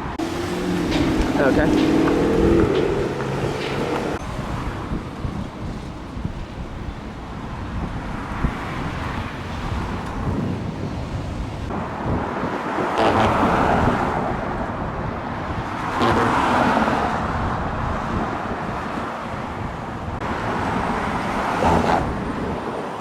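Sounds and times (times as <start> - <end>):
hum of road traffic: 0.0 - 23.0
vehicles passing: 0.0 - 23.0.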